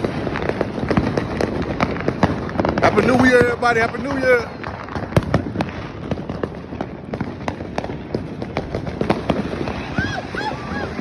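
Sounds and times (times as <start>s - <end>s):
continuous crackle: 0.0s - 11.0s
fireworks pops and bangs: 0.0s - 11.0s.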